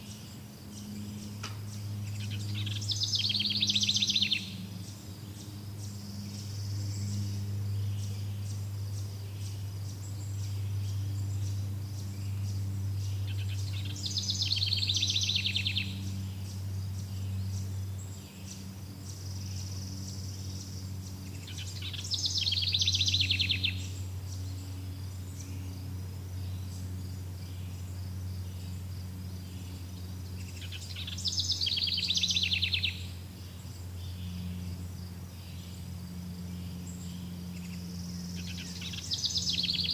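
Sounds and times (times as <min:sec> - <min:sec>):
songbird trilling: 0:00.0 - 0:25.7, 0:26.4 - 0:39.9
constant low hum: 0:00.0 - 0:39.9
insects chirring: 0:00.0 - 0:39.9.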